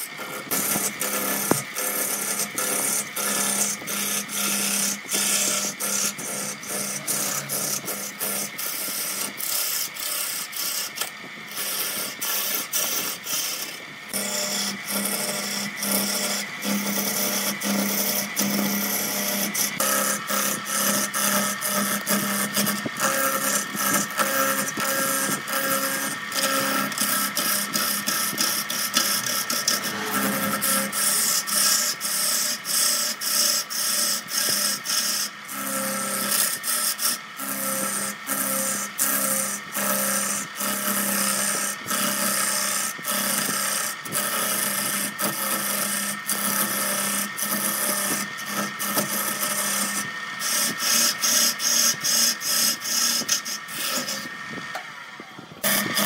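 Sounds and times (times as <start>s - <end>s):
chisel scraping spinning wood: 0.0s - 54.8s, 55.6s - 56.0s
lathe humming: 0.0s - 56.0s.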